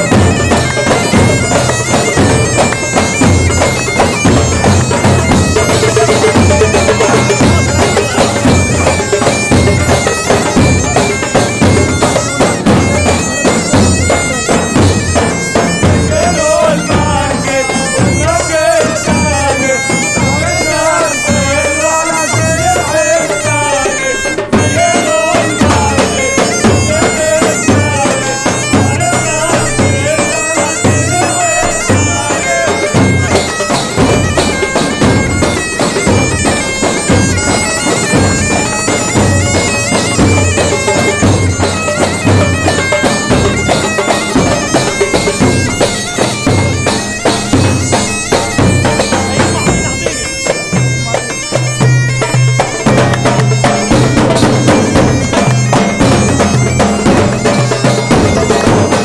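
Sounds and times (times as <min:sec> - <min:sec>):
bagpipes playing: 0:00.0 - 0:59.0
drums beating: 0:00.0 - 0:59.0.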